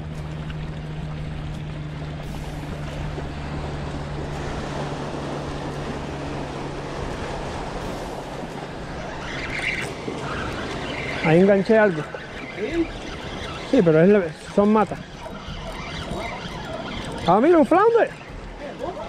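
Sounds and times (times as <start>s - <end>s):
wind on microphone: 0.0s - 19.0s
waves washing against rocks: 1.8s - 19.0s.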